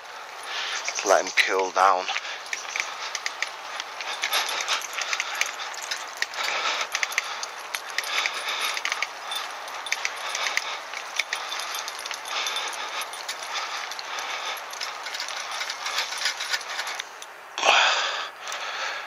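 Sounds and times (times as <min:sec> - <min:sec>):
dog trotting: 0:00.0 - 0:17.2
small clicks and rattles: 0:00.3 - 0:17.4.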